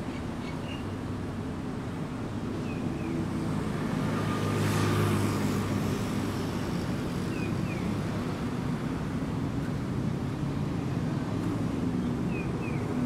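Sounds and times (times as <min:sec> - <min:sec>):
road traffic engine hum: 0:00.0 - 0:13.0.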